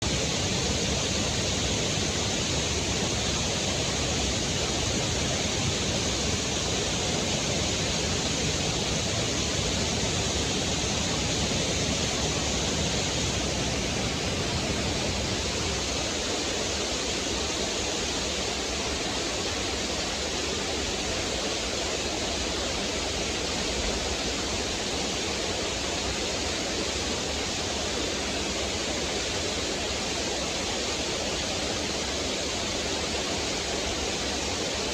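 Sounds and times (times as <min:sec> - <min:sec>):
waterfall splashing over rocks: 0:00.0 - 0:34.9.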